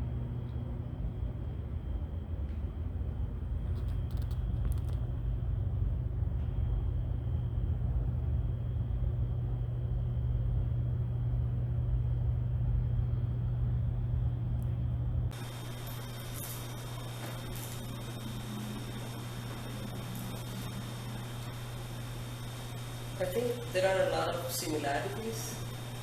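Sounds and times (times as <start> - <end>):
constant low hum: 0.0 - 26.0
steady low rumble: 0.0 - 26.0.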